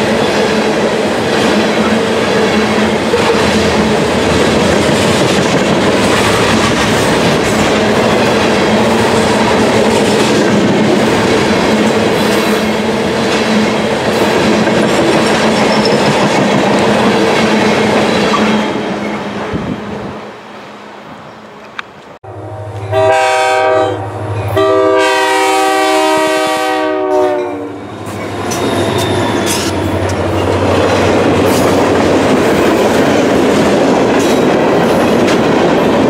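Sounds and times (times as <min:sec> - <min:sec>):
freight train rolling past: 0:00.0 - 0:36.0.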